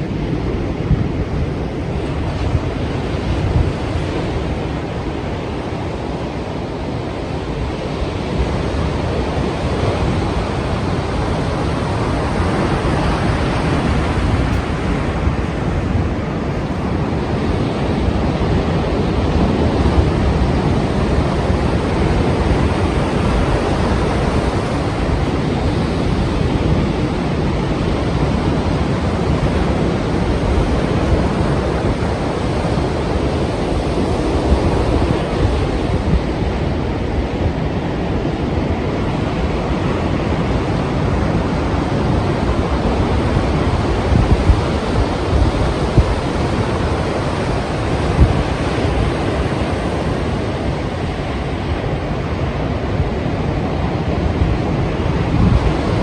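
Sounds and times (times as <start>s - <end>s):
sea waves breaking: 0.0s - 56.0s
wind: 0.0s - 56.0s.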